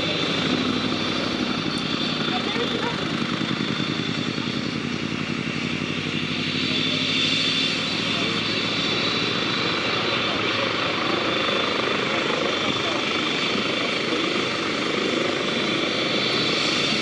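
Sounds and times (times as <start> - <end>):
fast helicopter rotor beat: 0.0 - 17.0
helicopter turbine whine: 0.0 - 17.0.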